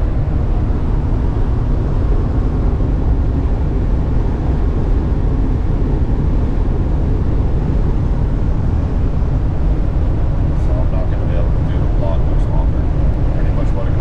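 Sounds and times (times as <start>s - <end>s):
van engine and road rumble: 0.0s - 14.0s.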